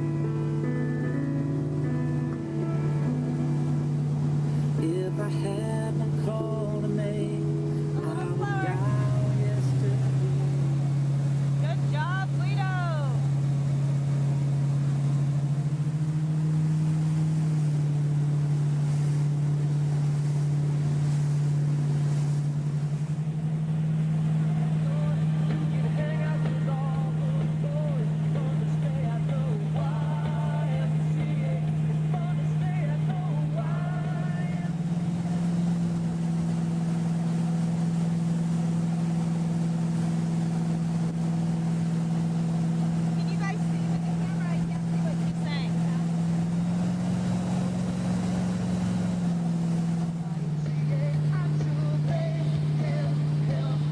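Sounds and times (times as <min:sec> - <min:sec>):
motorboat engine humming: 0:00.0 - 0:53.9.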